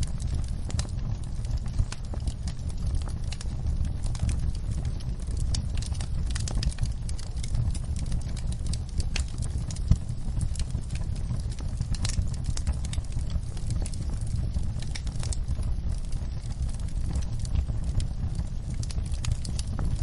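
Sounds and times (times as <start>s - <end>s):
rain on a window: 0.0s - 20.0s
steady low rumble: 0.0s - 20.0s
wood fire crackling and popping: 0.0s - 20.0s.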